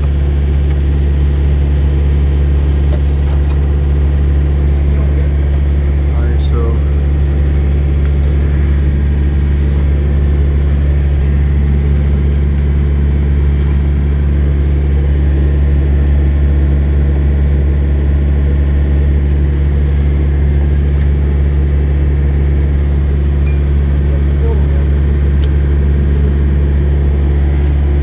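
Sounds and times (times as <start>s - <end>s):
engine idling drone: 0.0s - 28.0s.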